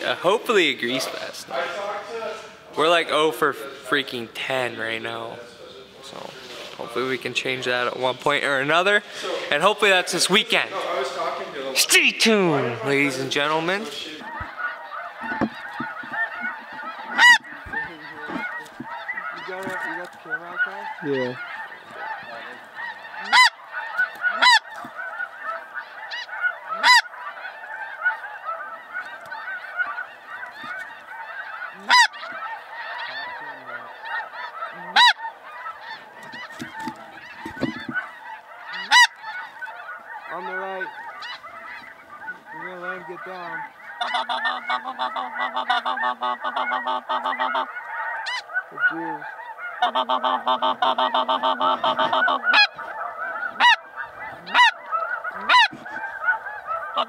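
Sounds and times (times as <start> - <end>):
flock of geese calling: 0.0 - 57.0.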